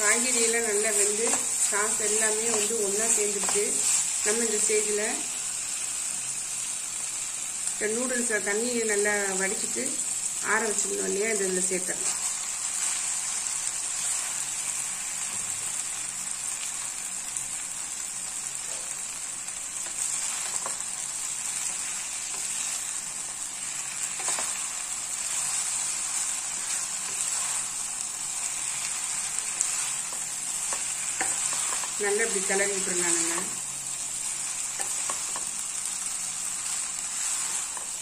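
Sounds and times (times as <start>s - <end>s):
noodles sizzling in a pan: 0.0s - 38.0s.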